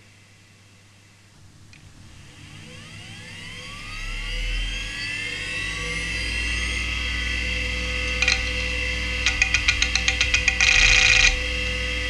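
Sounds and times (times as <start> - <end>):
hard drive spinning up whine: 0.0 - 12.0
low hum: 0.0 - 12.0.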